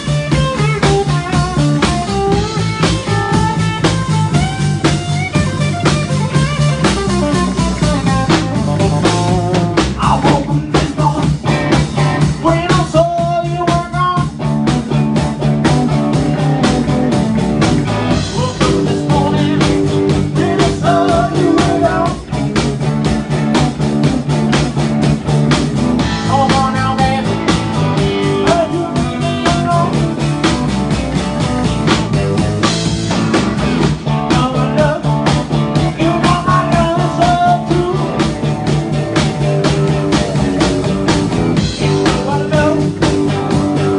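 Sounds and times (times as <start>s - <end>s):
drum kit steady beat: 0.0s - 43.9s
electric bass: 0.0s - 43.9s
electric guitar lead: 0.0s - 43.9s.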